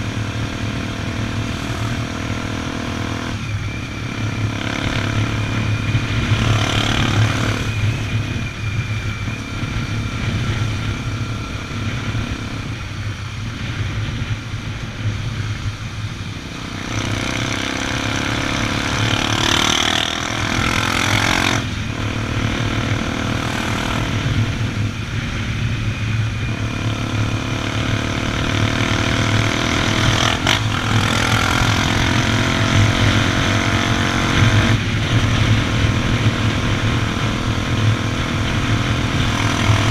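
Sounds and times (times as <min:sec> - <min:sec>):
motorcycle engine running: 0:00.0 - 0:39.9
wind rush and road noise: 0:00.0 - 0:39.9.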